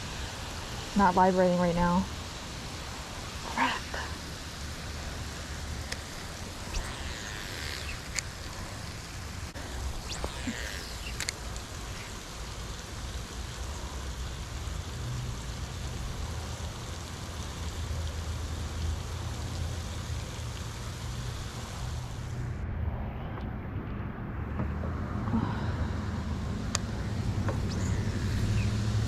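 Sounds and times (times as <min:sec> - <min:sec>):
rain falling steadily: 0:00.0 - 0:22.4, 0:25.0 - 0:29.0.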